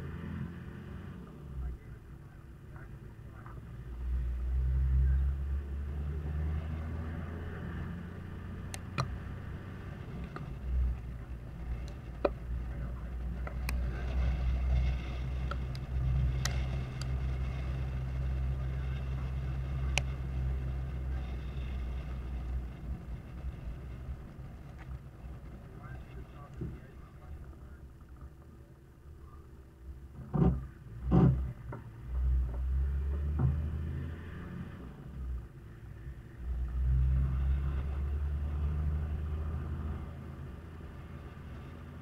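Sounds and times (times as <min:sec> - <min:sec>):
diesel engine driving: 0:00.0 - 0:42.0.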